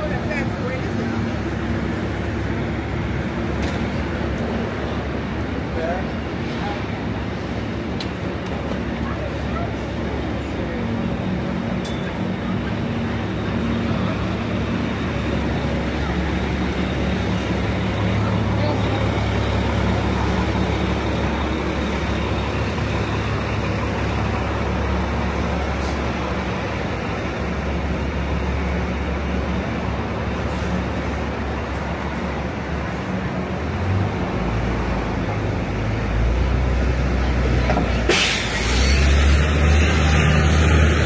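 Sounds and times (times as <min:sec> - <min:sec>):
road noise: 0:00.0 - 0:41.0
traffic engines rumbling: 0:00.0 - 0:41.0.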